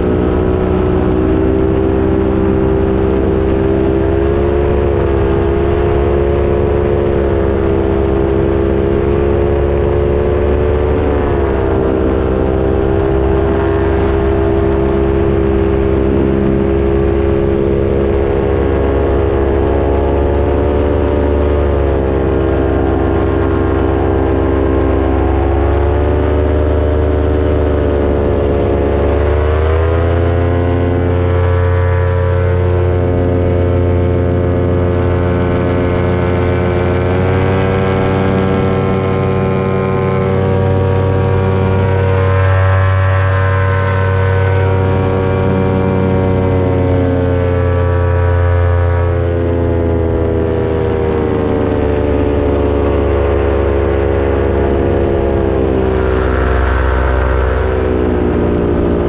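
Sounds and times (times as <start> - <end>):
low rumble: 0.0 - 59.0
paramotor engine and propeller: 0.0 - 59.0.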